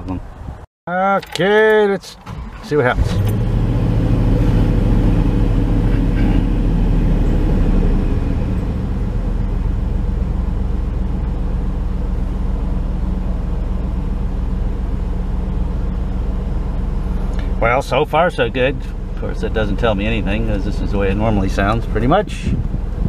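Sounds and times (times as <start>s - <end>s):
engine idling: 2.1s - 23.0s.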